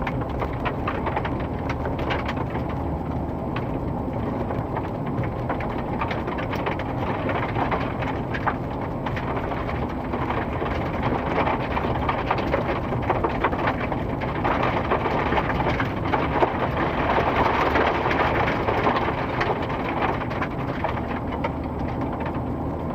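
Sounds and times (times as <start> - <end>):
dense crackling: 0.0 - 22.9
road-works machinery rumble: 0.0 - 22.9.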